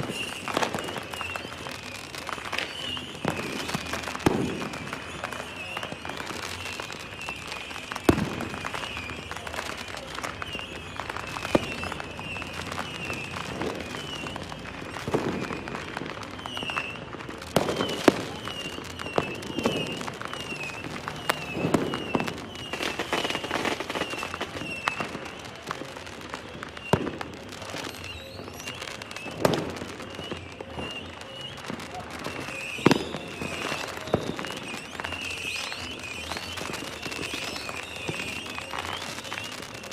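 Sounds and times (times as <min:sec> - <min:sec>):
fireworks bangs and booms: 0:00.0 - 0:39.9
fireworks crackling: 0:00.0 - 0:39.9.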